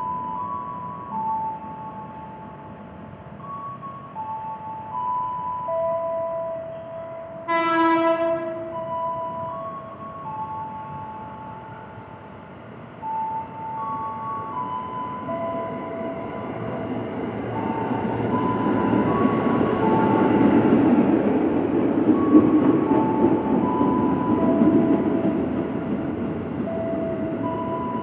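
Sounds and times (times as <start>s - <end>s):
electric train pulling in: 0.0s - 28.0s.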